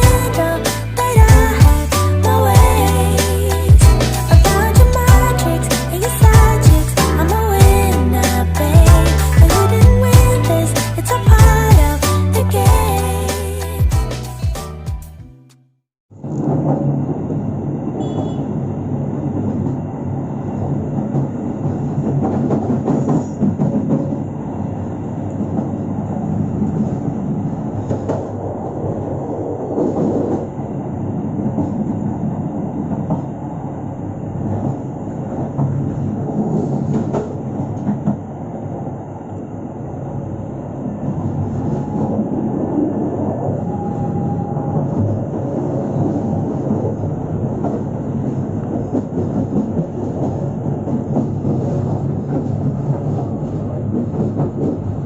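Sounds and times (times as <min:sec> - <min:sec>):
train rumbling on track: 0:00.0 - 0:14.8, 0:16.1 - 0:55.0.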